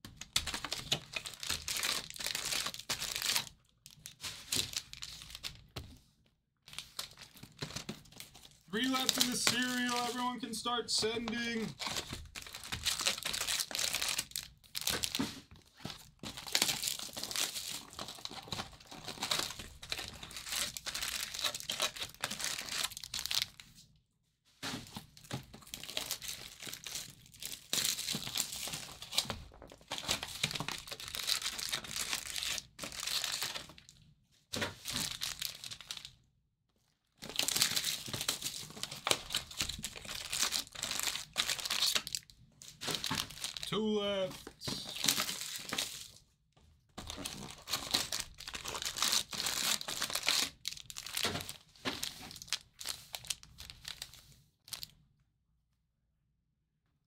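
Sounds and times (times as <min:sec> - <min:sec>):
packaging crinkling and tearing: 0:00.1 - 0:05.8, 0:06.7 - 0:10.4, 0:11.2 - 0:23.6, 0:24.9 - 0:34.0, 0:34.6 - 0:36.2, 0:37.2 - 0:43.7, 0:44.7 - 0:46.2, 0:47.0 - 0:54.9.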